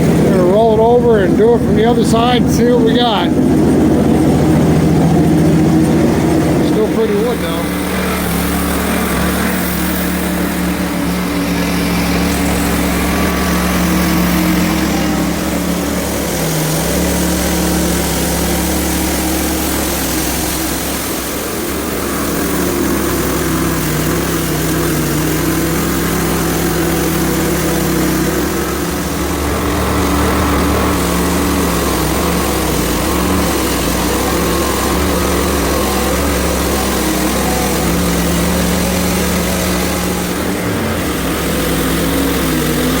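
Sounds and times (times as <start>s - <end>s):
small gasoline engine running: 0.0s - 43.0s.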